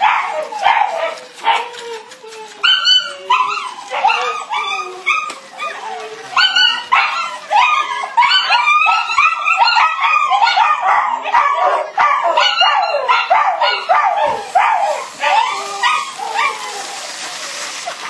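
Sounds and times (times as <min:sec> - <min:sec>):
puppy yipping: 0:00.0 - 0:17.3.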